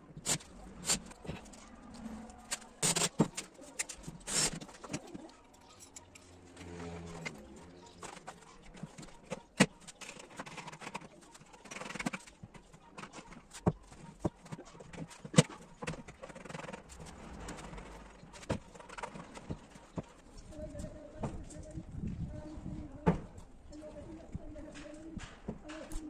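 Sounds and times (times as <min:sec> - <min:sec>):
scraping and rustling: 0:00.1 - 0:26.0.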